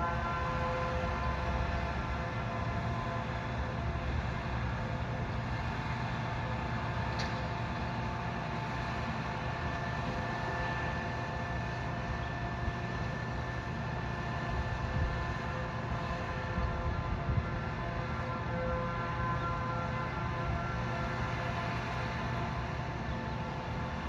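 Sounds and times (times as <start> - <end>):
heavy machinery rumble: 0.0 - 24.0.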